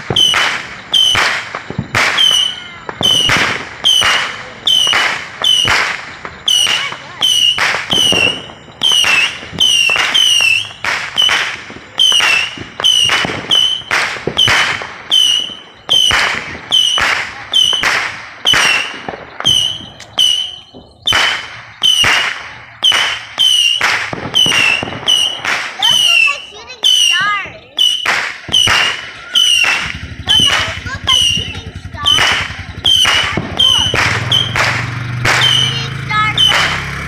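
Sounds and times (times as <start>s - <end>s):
missile launch pop and whistle: 0.0s - 36.9s.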